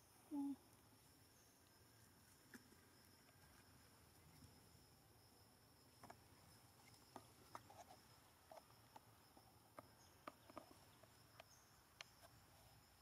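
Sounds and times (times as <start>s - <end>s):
faint high insect drone: 0.0s - 13.0s.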